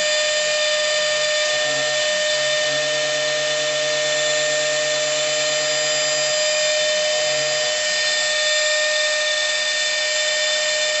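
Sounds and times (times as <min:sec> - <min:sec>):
router spindle whining: 0:00.0 - 0:11.0.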